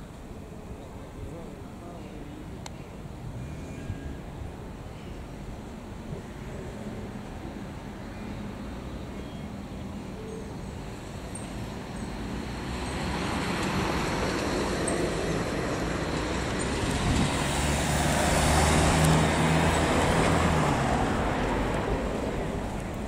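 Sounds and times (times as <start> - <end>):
vehicle tyre and engine noise: 0.0 - 23.0.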